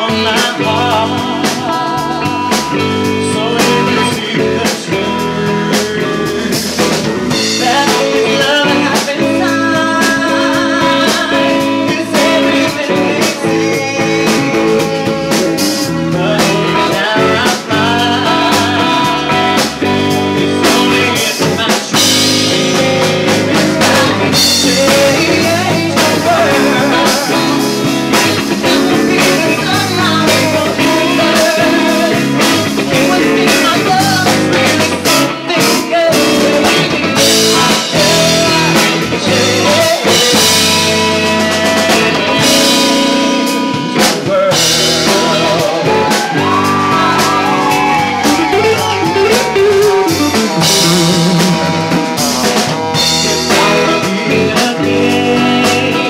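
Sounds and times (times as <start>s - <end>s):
drum kit: 0.0s - 56.0s
electric guitar: 0.0s - 56.0s
man singing into a microphone: 0.0s - 56.0s.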